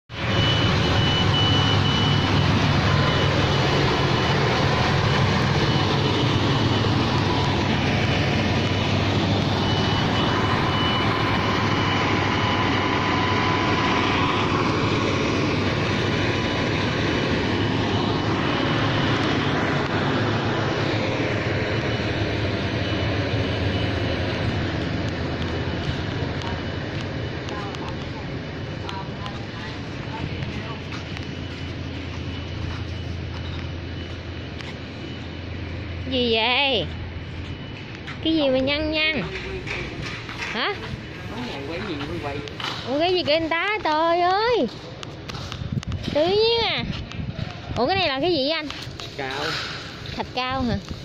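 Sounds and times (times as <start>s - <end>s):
diesel truck engine running: 0.1s - 51.0s.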